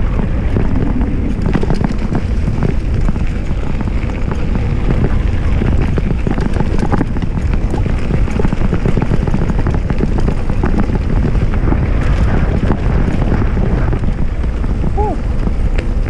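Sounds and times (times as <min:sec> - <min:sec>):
bike clicks and rattles: 0:00.0 - 0:16.0
bike tyre rumble: 0:00.0 - 0:16.0
tyres rolling on wooden boardwalk: 0:00.0 - 0:16.0
wind buffeting microphone: 0:00.0 - 0:16.0.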